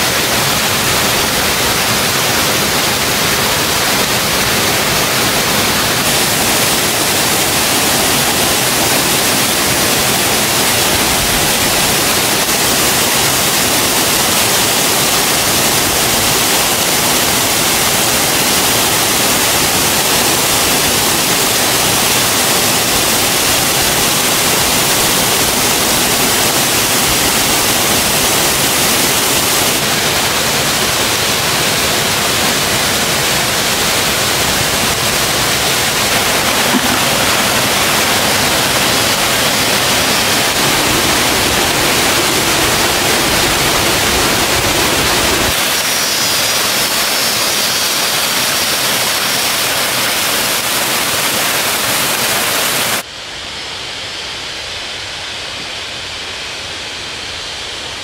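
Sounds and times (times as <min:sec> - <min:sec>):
rushing water: 0:00.0 - 0:53.1.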